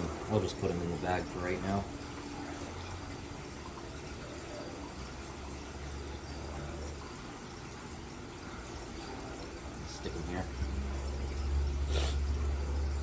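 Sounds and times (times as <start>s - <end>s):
running water noise: 0.0s - 13.0s.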